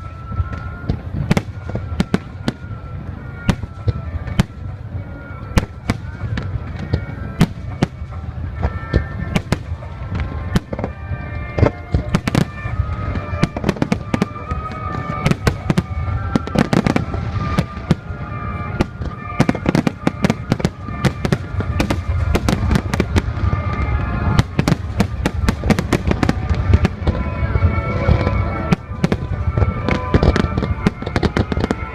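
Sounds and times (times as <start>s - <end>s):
fireworks bangs: 0.0s - 31.9s
music playing: 0.0s - 31.9s.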